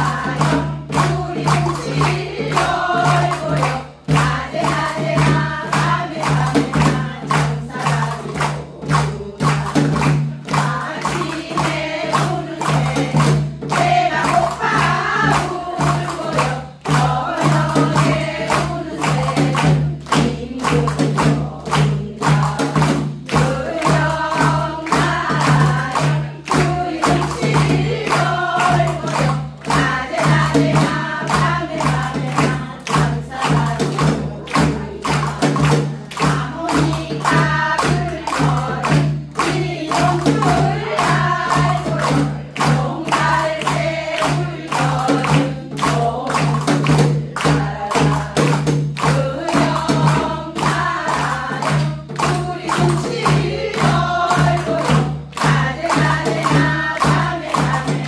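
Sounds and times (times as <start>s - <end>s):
driving percussive beat: 0.0s - 58.0s
women singing folk song in unison: 0.0s - 58.0s.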